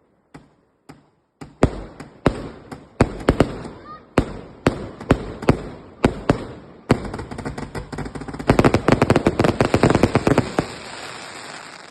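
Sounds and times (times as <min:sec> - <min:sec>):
fireworks bangs and cracks: 0:01.5 - 0:11.9.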